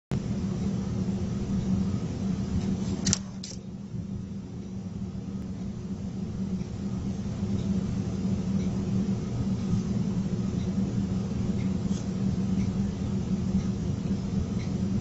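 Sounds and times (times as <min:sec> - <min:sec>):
machine hum with fan hiss: 0:00.1 - 0:15.0.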